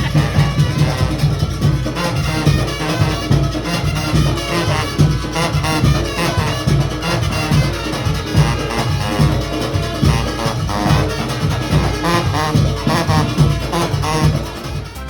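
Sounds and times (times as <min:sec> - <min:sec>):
brass horns: 0:00.0 - 0:15.0
driving drum beat: 0:00.0 - 0:15.0.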